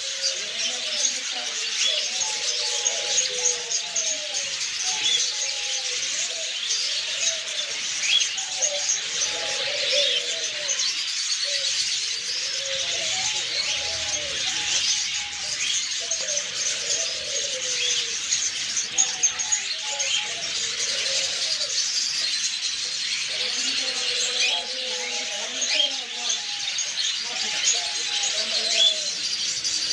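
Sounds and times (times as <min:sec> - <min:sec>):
caged birds chirping: 0:00.0 - 0:29.9.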